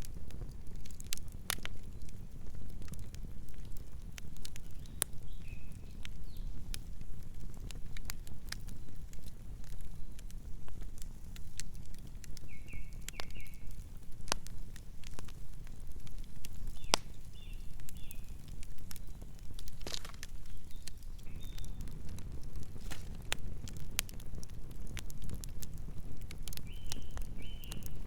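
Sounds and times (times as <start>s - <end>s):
low rumble of flames: 0.0s - 28.0s
wood crackling and popping: 0.0s - 28.0s.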